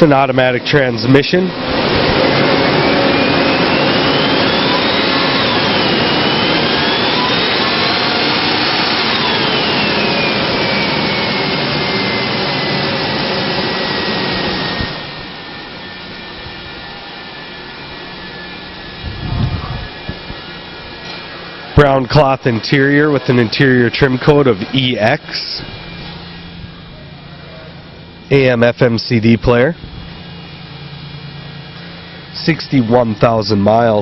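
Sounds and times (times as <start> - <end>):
engine revving with whine: 0.0 - 34.0.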